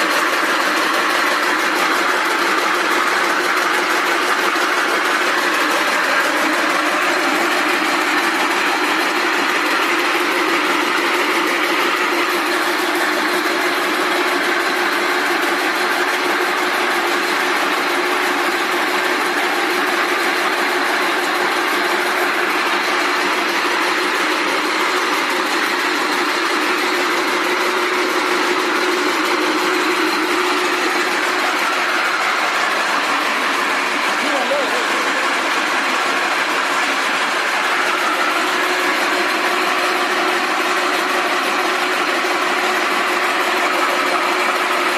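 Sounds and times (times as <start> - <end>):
machines running loud din: 0.0 - 44.9.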